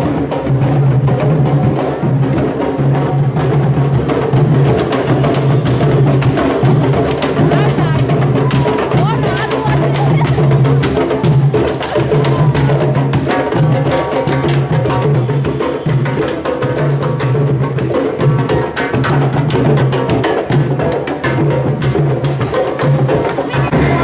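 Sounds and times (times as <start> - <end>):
hand drums playing fast rhythm: 0.0 - 24.0.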